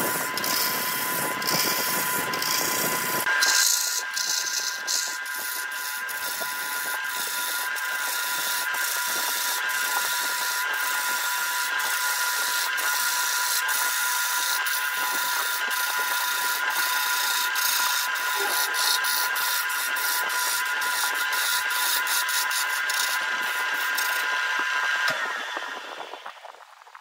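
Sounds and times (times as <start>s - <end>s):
lathe tool scraping wood: 0.0s - 26.6s
machine whine: 0.0s - 27.0s.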